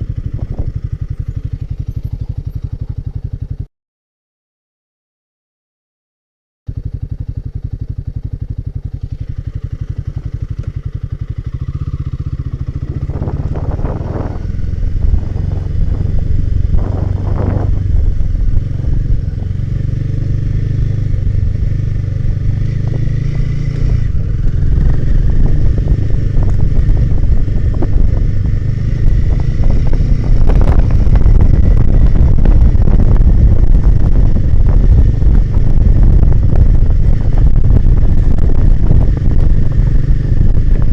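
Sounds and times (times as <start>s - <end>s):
wind noise: 0.0s - 3.6s, 6.8s - 40.9s
motorcycle engine running: 0.0s - 3.7s, 6.7s - 40.9s.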